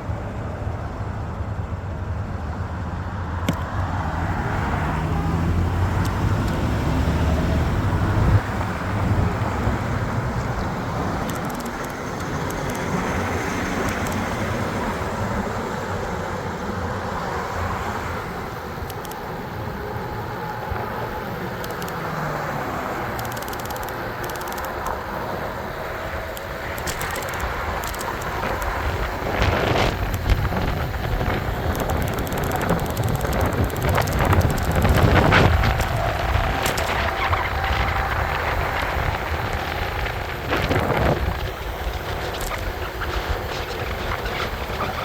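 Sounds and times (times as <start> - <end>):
road and traffic rumble: 0.0 - 45.0
wind buffeting microphone: 0.0 - 45.0.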